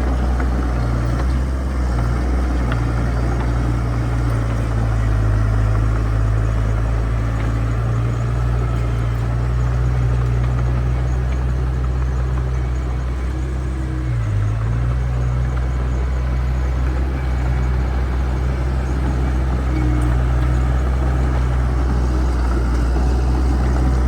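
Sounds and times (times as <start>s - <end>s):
heavy diesel engine droning: 0.0s - 24.0s.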